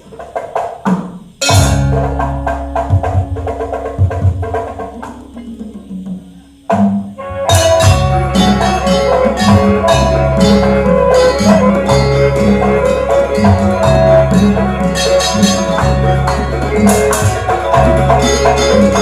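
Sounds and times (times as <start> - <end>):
quick drum strokes: 0.0 - 19.0
ringing tuned percussion: 1.4 - 19.0.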